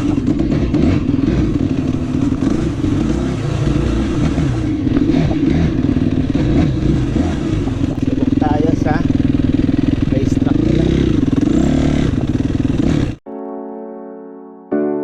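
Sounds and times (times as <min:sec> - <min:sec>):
dirt bike engine revving: 0:00.0 - 0:13.2.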